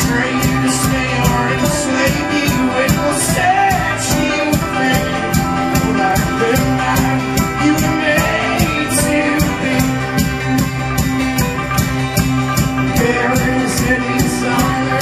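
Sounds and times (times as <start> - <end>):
folk-rock band playing live: 0.0 - 15.0.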